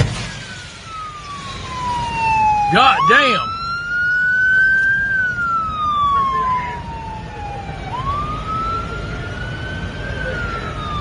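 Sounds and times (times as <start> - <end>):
engine and road rumble: 0.0 - 11.0
police siren wailing: 0.3 - 11.0.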